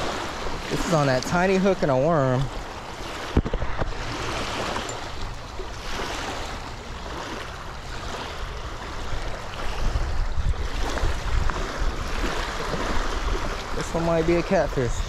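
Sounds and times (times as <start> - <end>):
water lapping at bank: 0.0 - 15.0
wind rumbling on microphone: 0.0 - 15.0.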